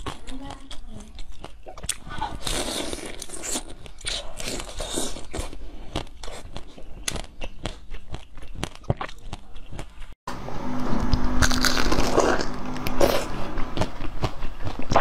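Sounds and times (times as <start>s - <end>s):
person chewing crunchy food: 0.0s - 10.2s, 11.0s - 15.0s.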